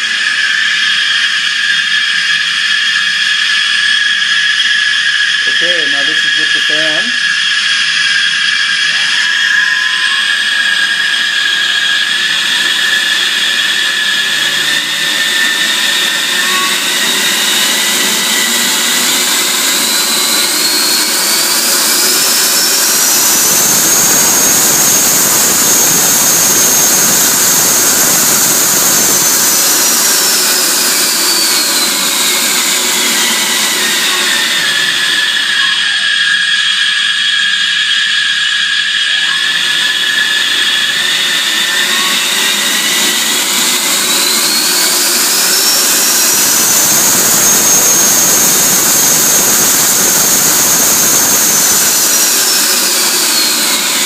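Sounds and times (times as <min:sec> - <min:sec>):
jet turbine whine: 0:00.0 - 0:54.0.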